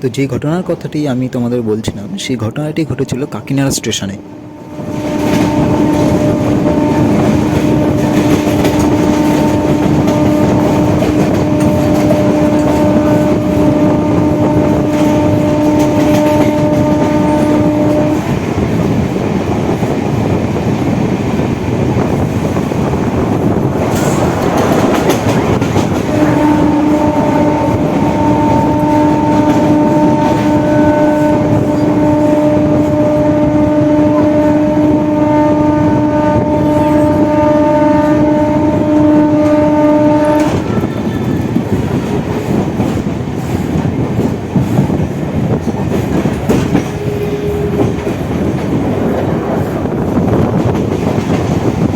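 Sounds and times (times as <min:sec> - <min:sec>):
electric train running with rail clatter: 0:00.0 - 0:51.9
train horn blast: 0:02.9 - 0:19.0, 0:22.2 - 0:43.6, 0:45.9 - 0:51.6.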